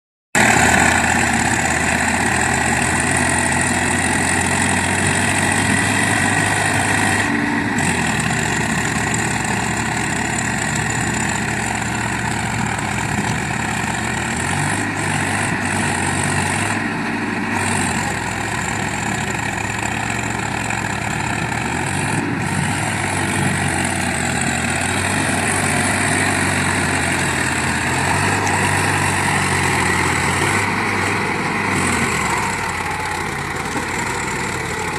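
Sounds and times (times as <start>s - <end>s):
tractor diesel engine running: 0.4s - 34.9s.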